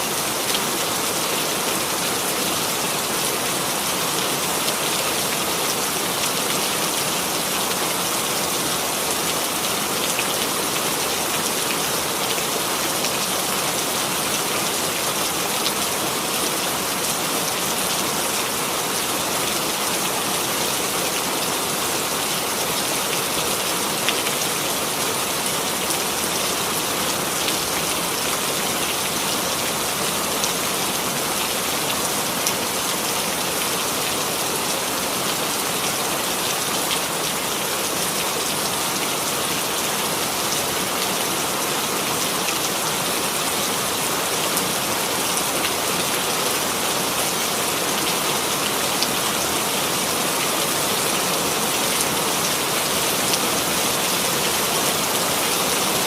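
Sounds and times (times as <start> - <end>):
rain hissing on a surface: 0.0 - 56.0.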